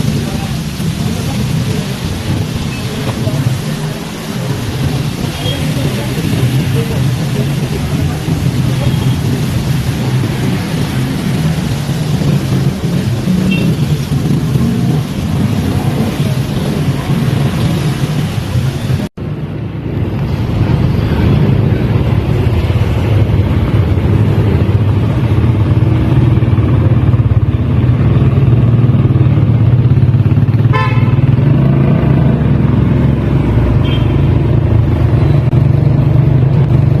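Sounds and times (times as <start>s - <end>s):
city traffic rumble: 0.0s - 37.0s.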